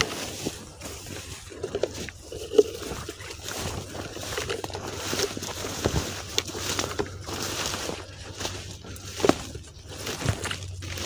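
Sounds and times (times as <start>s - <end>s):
footsteps in grass: 0.0s - 11.0s
rustling in grass: 0.0s - 11.0s.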